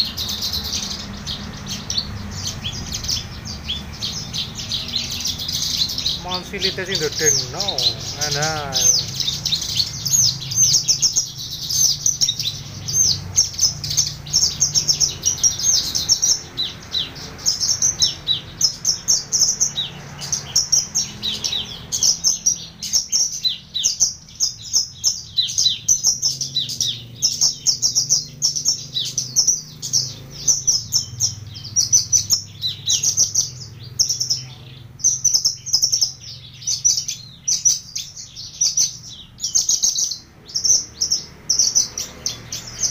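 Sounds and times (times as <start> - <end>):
bird singing chirps and trills: 0.0 - 42.9.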